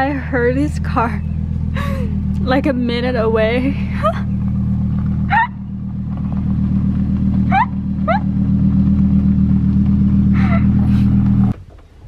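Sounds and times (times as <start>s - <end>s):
car engine low drone: 0.0s - 12.0s
tyres rolling on gravel: 0.0s - 12.0s.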